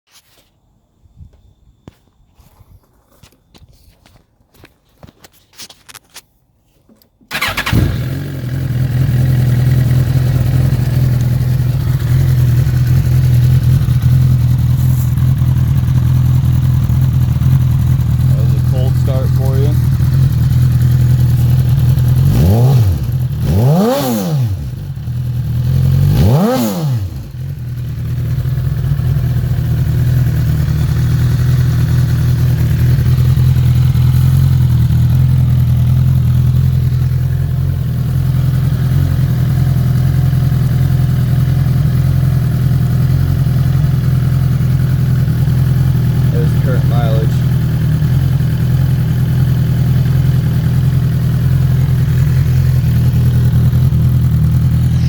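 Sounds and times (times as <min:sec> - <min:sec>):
vehicle engine revving and idling: 0:07.3 - 0:55.0.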